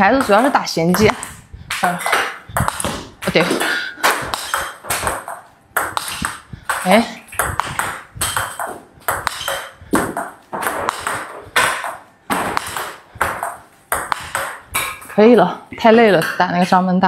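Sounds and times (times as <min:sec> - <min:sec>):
table tennis ball hitting paddles: 0:00.0 - 0:16.7
table tennis ball bouncing on table: 0:00.0 - 0:16.8.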